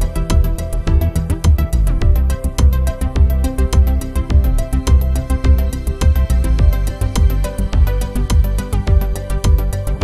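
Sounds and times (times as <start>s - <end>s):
pulsing synth bass: 0.0s - 10.0s
ticking percussion: 0.0s - 10.0s.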